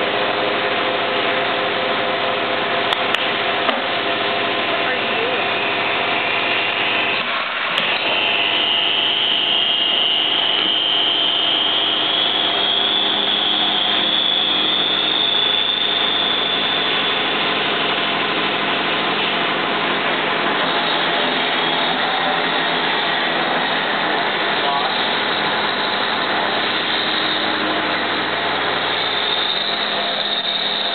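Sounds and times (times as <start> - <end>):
milling machine whine: 0.0 - 30.9.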